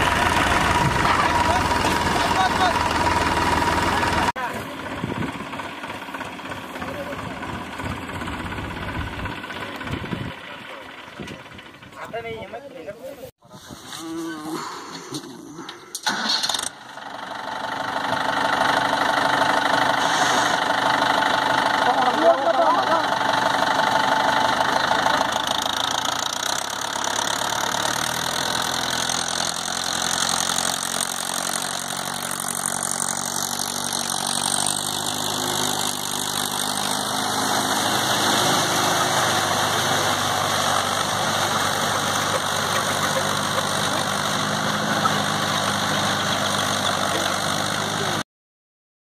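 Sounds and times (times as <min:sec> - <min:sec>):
tractor diesel engine running: 0:00.0 - 0:12.7, 0:15.7 - 0:48.2.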